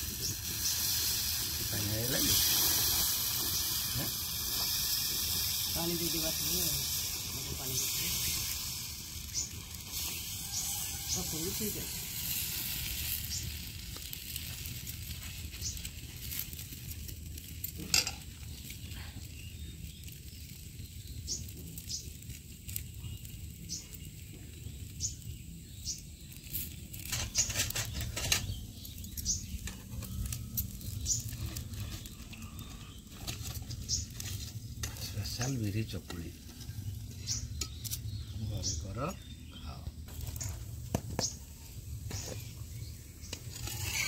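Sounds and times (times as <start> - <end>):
batter sizzling on hot iron: 0.0 - 44.0.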